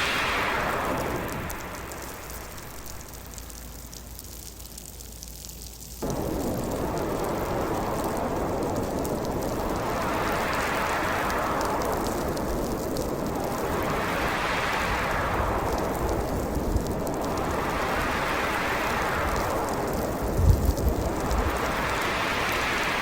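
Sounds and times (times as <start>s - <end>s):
faint fine crackling: 0.0s - 23.0s
gusting wind: 0.0s - 23.0s.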